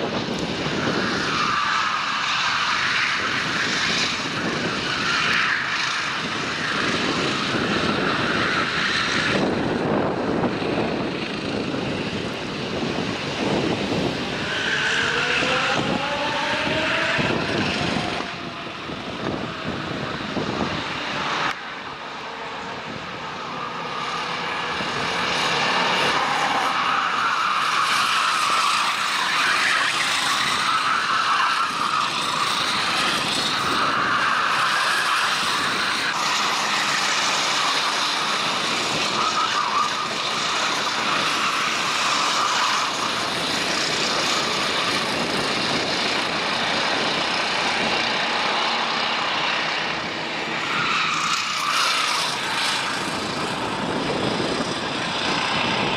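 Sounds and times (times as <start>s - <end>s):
racing kart engines at high revs: 0.0s - 55.9s.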